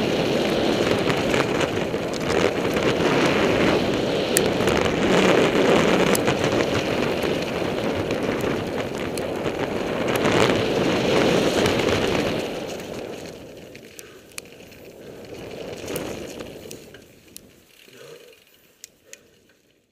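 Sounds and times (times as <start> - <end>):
bike tyres on gravel rattling: 0.0 - 19.9.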